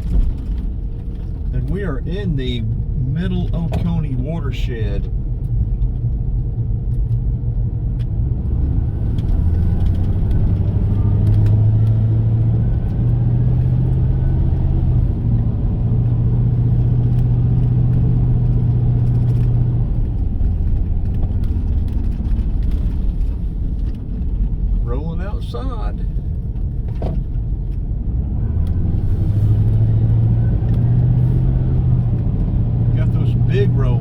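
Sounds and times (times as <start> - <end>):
car engine: 0.0 - 34.0
road rumble: 0.0 - 34.0.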